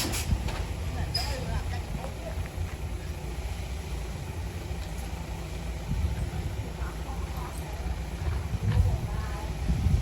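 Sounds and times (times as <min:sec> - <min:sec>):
heavy diesel machinery rumbling: 0:00.0 - 0:10.0.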